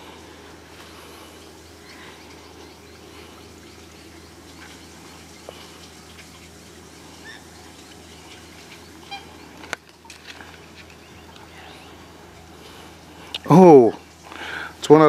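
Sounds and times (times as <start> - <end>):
birds chirping faintly: 0.0 - 15.0
low background hum: 0.0 - 15.0.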